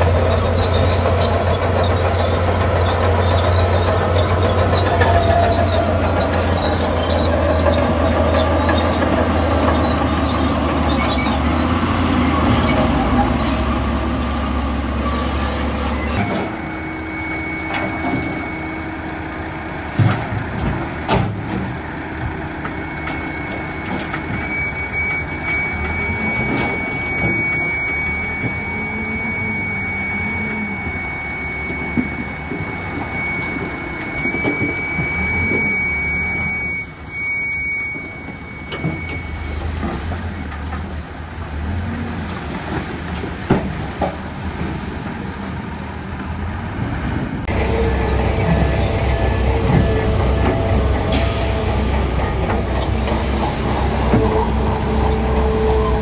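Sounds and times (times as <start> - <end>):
heavy construction machinery: 0.0 - 56.0.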